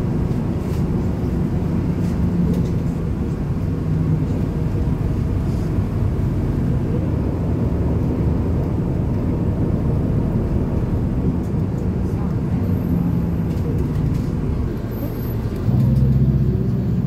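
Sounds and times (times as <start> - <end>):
bus low rumble: 0.0 - 17.0.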